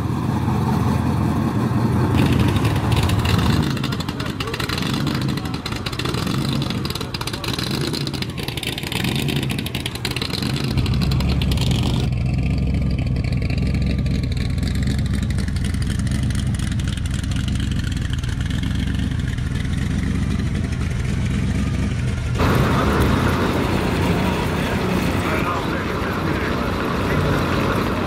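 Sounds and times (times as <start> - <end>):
supercharged engine running: 0.0 - 28.0.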